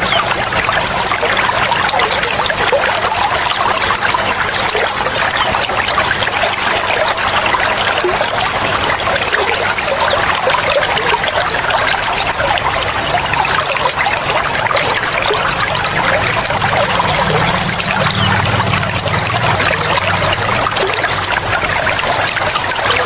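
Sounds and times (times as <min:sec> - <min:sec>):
water pouring: 0:00.0 - 0:23.0
small birds chirping: 0:01.6 - 0:23.0.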